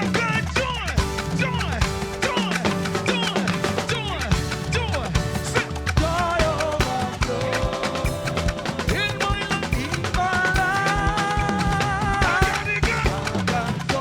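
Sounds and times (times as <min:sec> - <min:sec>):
gospel band playing: 0:00.0 - 0:14.0.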